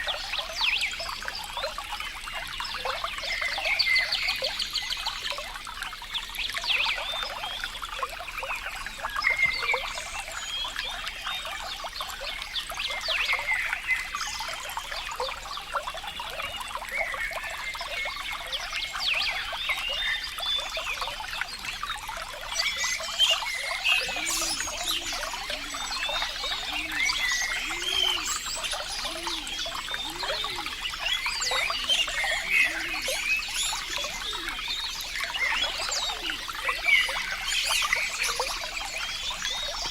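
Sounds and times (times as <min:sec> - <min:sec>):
small water splashes: 0:00.0 - 0:39.9
water trickling and bubbling: 0:00.0 - 0:39.9.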